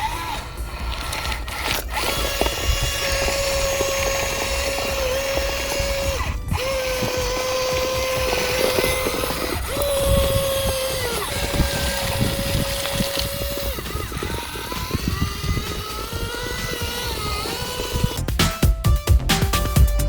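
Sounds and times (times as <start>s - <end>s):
small electric motor whining: 0.0s - 18.4s.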